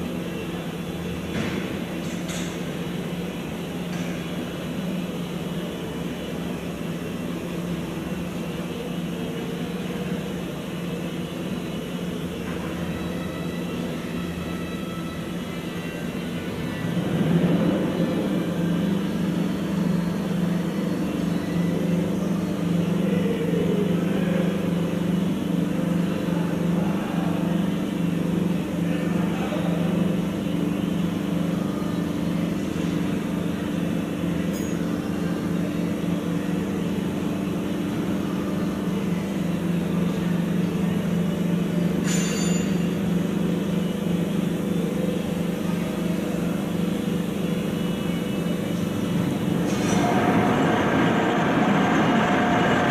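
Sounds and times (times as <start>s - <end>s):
steady mechanical drone: 0.0s - 52.9s.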